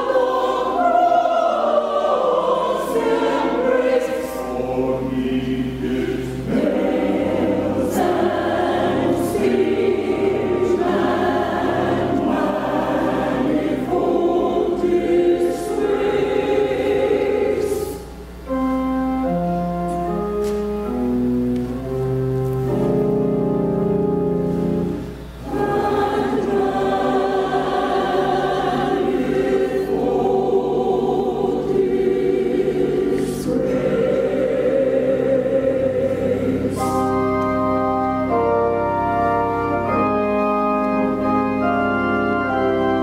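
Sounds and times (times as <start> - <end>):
choir singing in parts: 0.0 - 18.6, 22.7 - 43.0
instrumental accompaniment: 0.0 - 43.0.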